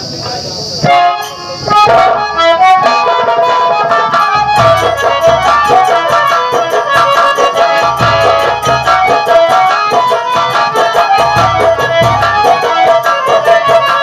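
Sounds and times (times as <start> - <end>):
hand drum strokes: 0.2 - 14.0
harmonium melody: 0.3 - 14.0.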